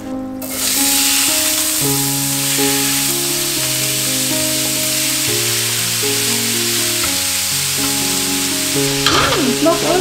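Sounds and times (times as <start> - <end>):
background music of held chords: 0.0 - 10.0
beef and onion sizzling in pan: 0.4 - 10.0.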